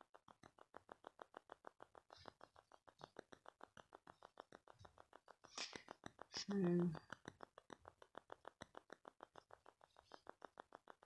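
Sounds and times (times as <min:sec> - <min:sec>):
faint even ticking: 0:00.0 - 0:11.0.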